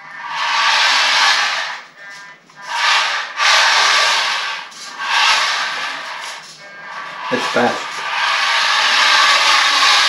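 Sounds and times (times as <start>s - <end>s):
rc car electric motor whirring: 0.0s - 10.0s.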